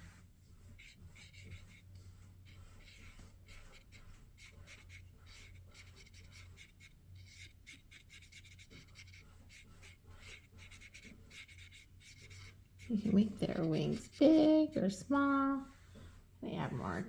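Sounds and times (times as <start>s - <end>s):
brush strokes on wet paper: 0.0s - 17.0s.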